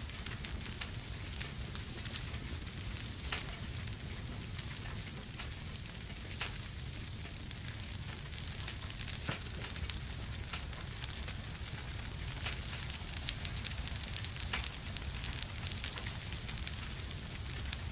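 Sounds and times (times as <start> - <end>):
wood fire burning: 0.0 - 17.9.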